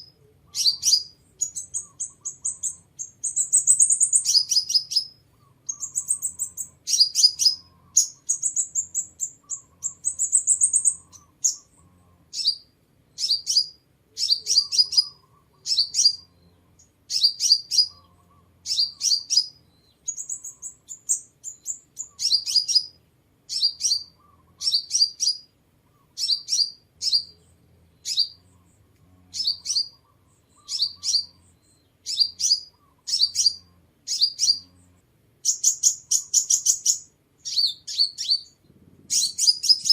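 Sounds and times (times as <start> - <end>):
rising bird trill: 0.0 - 39.9
sunbird chirping: 0.0 - 39.9.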